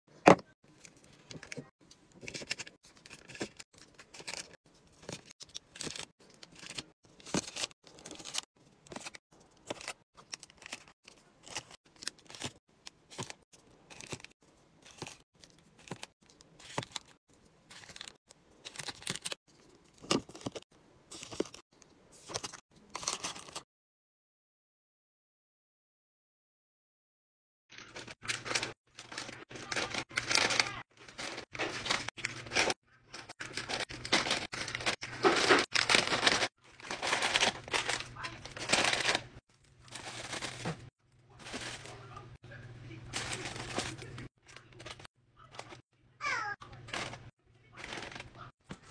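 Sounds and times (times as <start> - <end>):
plastic wrappers crinkling: 0.7 - 20.6, 27.8 - 42.3, 43.1 - 45.8, 46.8 - 48.9.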